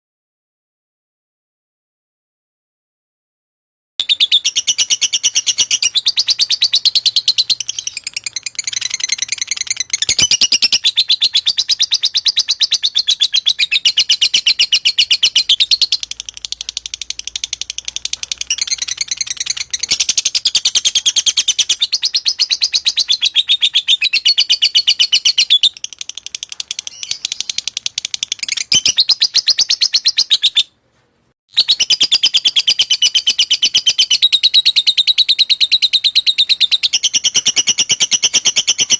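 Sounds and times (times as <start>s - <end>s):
lovebird chattering song: 4.0s - 30.7s, 31.6s - 38.9s.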